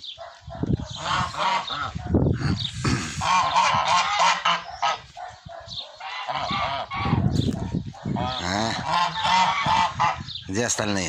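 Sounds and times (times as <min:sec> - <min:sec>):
geese honking: 0:00.6 - 0:10.4.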